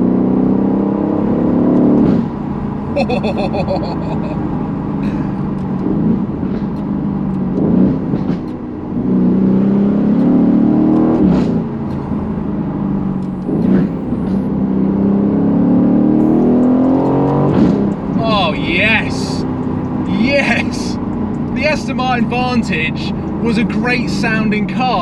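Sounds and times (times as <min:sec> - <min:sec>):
sports car engine accelerating: 0:00.0 - 0:25.0.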